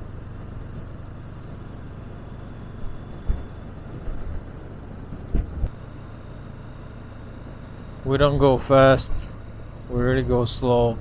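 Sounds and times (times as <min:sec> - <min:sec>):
motorcycle engine hum: 0:00.0 - 0:11.0
road and wind noise: 0:00.0 - 0:11.0.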